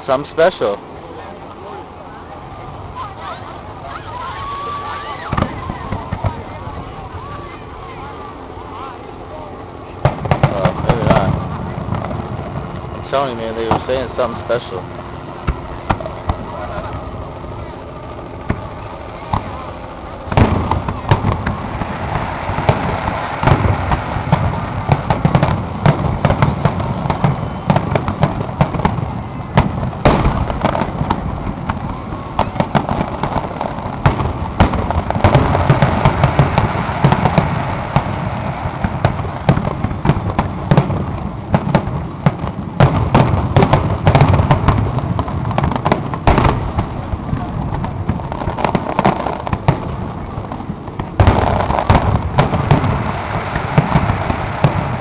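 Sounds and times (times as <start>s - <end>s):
fireworks bursting and crackling: 0.0s - 55.0s
heavy rumble: 0.0s - 55.0s.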